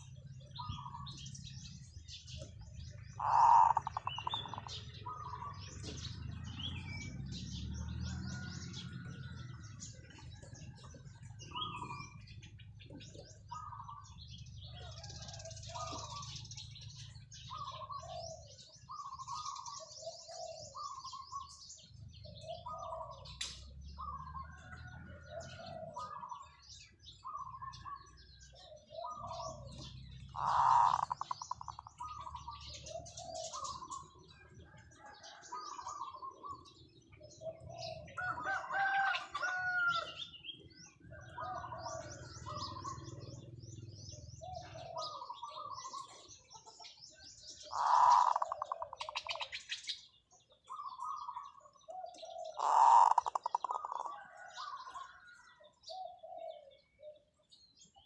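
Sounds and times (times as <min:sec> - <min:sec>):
dove cooing: 0:00.0 - 0:58.0
small birds chirping: 0:00.0 - 0:58.0.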